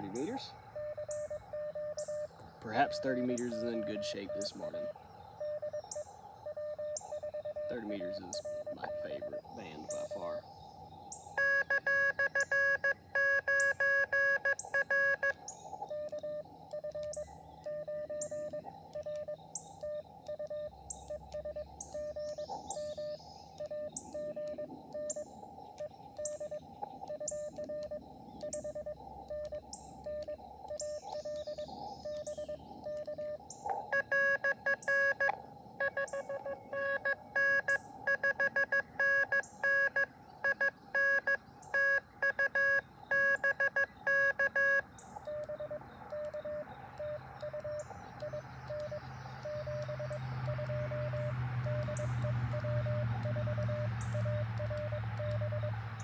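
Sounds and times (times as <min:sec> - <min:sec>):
loud keyed morse signal: 0:00.0 - 0:10.4, 0:11.2 - 0:55.8
morse code tone: 0:00.0 - 0:10.4, 0:11.4 - 0:55.8.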